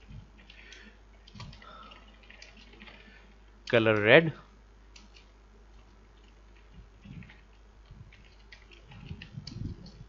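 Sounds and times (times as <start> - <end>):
keyboard typing: 0.0 - 3.4, 4.9 - 10.0.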